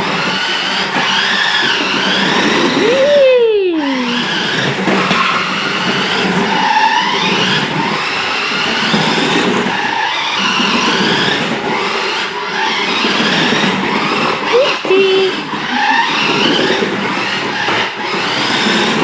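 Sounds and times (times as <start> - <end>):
toy car electric motor whining: 0.0 - 19.0.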